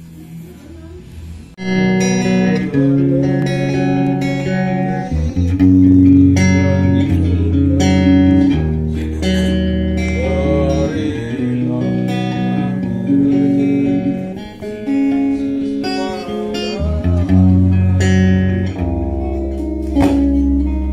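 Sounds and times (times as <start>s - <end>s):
guitar music with bass notes: 1.6s - 20.9s.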